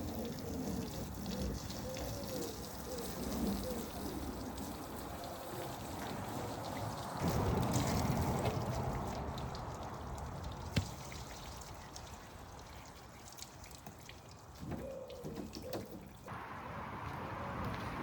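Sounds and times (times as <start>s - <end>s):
water splashing and dripping: 0.0s - 16.4s.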